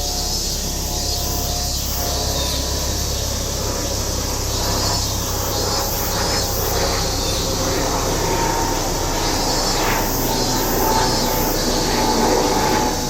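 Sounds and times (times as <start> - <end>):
cicadas shrilling: 0.0 - 13.0.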